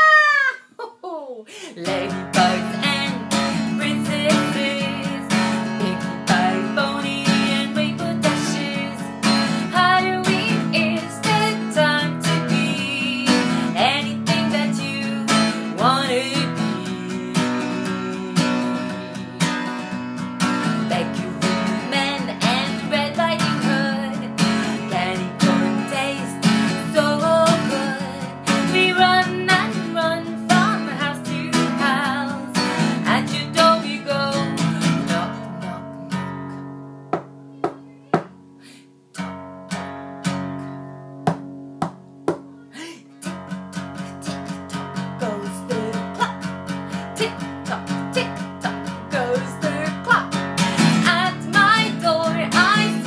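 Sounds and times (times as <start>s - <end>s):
woman singing: 0.0s - 19.8s, 20.6s - 36.3s, 44.0s - 53.0s
acoustic guitar strumming: 1.8s - 53.0s.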